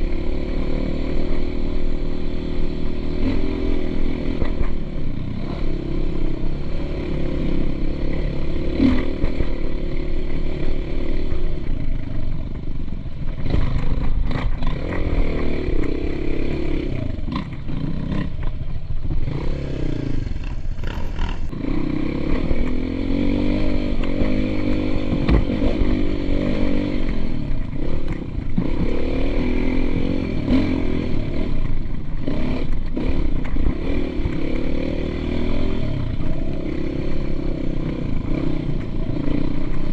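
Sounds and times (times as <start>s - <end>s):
dirt bike engine revving: 0.0s - 12.0s, 13.4s - 39.9s.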